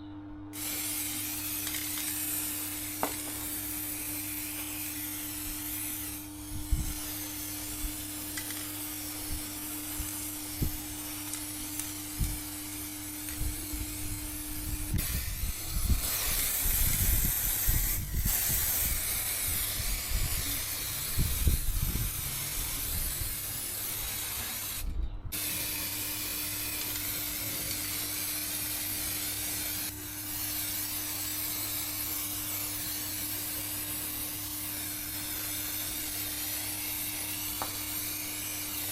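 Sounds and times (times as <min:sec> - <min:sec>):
faint hum: 0:00.0 - 0:37.3
steady hissing noise: 0:00.6 - 0:38.9.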